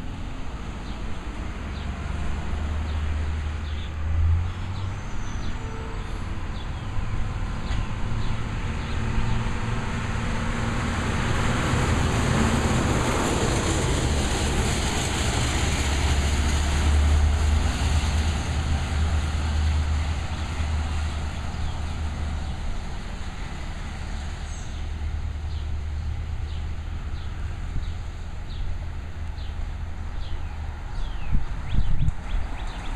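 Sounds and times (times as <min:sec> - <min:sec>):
street traffic noise: 0:00.0 - 0:32.9
truck engine rumbling: 0:00.0 - 0:32.9.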